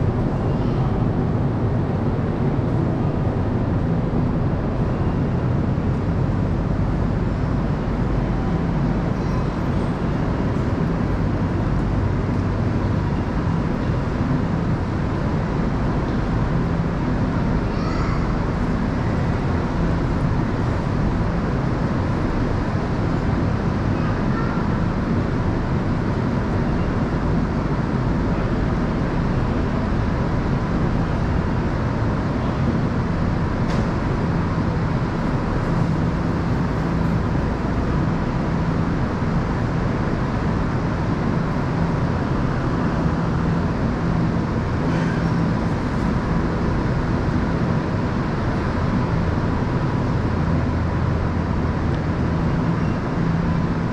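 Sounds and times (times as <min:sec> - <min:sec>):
electric train hum and rumble: 0:00.0 - 0:53.9.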